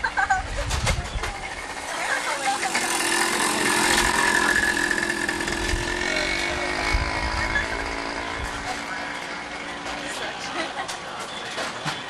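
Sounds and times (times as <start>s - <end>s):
racing motorcycle engine: 1.3s - 11.1s.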